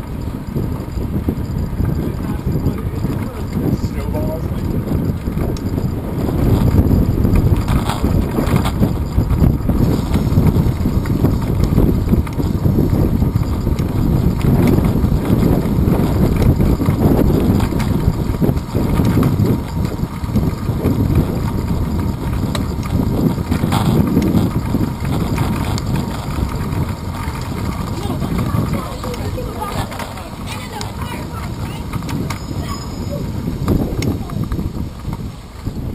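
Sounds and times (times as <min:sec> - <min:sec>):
road rumble: 0:00.0 - 0:35.9
wind buffeting: 0:00.0 - 0:35.9.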